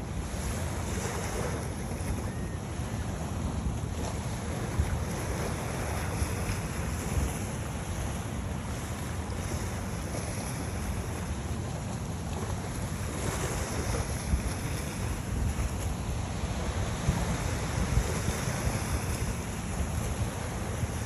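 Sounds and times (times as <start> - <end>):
small waves washing on sand: 0.0 - 21.0
wind buffeting microphone: 0.0 - 21.0.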